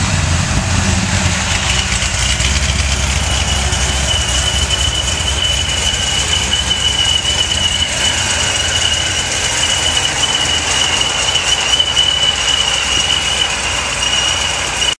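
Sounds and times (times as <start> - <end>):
car engine idling: 0.0 - 15.0
high-pitched supercharger whine: 0.0 - 15.0.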